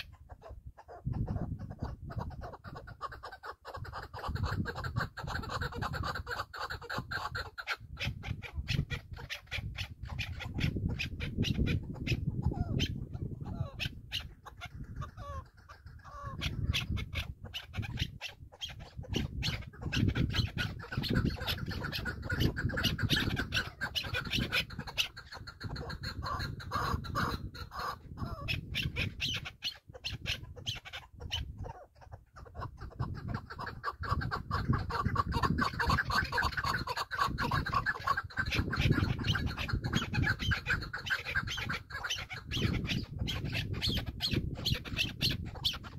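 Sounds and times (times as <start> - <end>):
partridge clucking calls: 0.0 - 45.9
wind rumble on microphone: 0.0 - 45.9.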